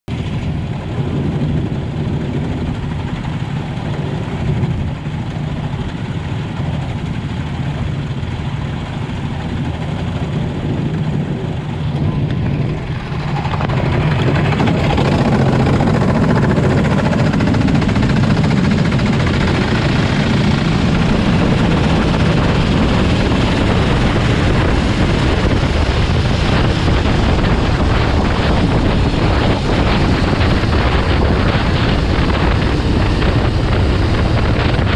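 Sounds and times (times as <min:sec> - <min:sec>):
race car engines: 0:03.1 - 0:34.9.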